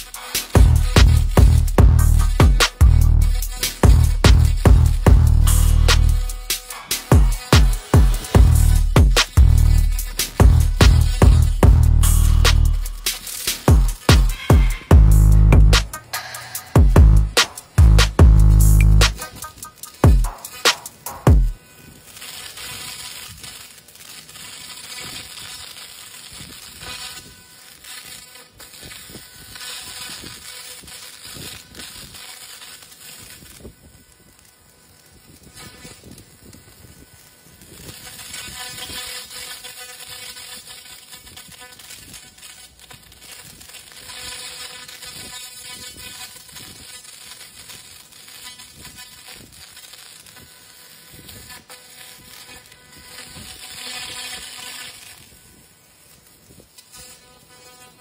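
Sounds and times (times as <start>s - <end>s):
laser stripping paint crackling hiss: 0.0s - 58.0s.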